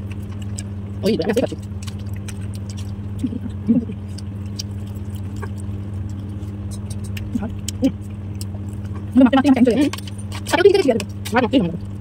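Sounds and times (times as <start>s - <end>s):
chewing: 0.0s - 12.0s
steady low hum: 0.0s - 12.0s.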